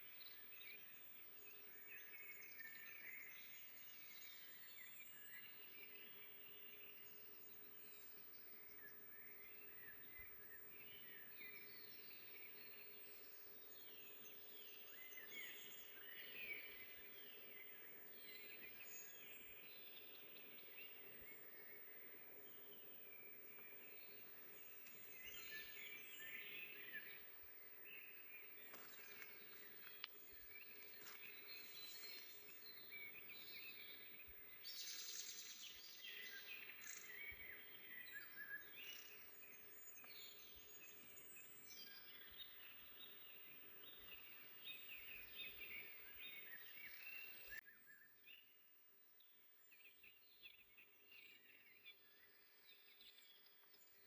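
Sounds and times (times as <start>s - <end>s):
faint steady hum: 0.0s - 47.6s
small songbirds chirping: 0.0s - 54.0s
soft forest ambience: 0.0s - 54.0s.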